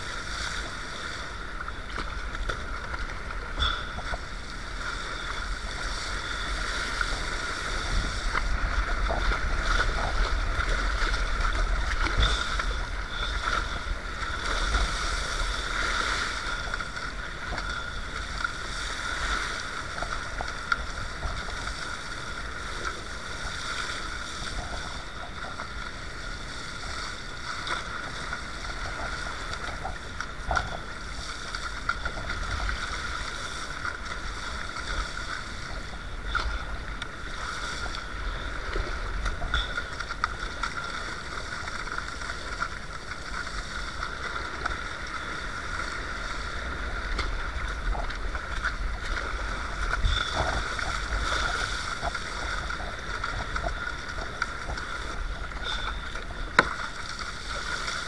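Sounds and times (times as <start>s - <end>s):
water splashing around kayak: 0.0s - 58.0s.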